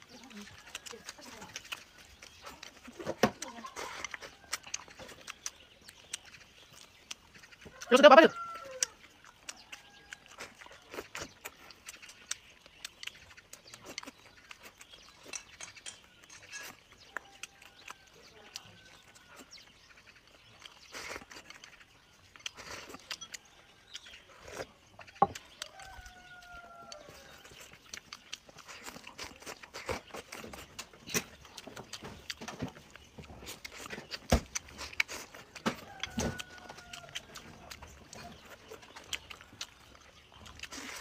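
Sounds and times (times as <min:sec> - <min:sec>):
farm animal calling: 0:00.0 - 0:15.3, 0:15.9 - 0:41.0
chewing: 0:00.0 - 0:41.0.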